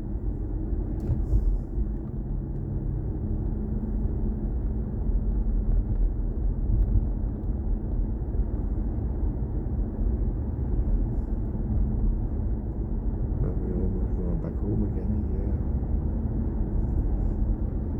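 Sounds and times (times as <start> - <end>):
road and tyre rumble: 0.0 - 17.9.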